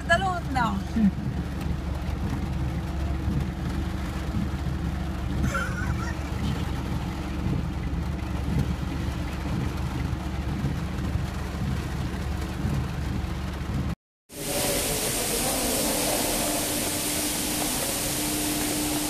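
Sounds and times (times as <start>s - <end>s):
vehicle rumbling through floodwater: 0.0s - 19.0s
water washing past: 0.0s - 19.0s.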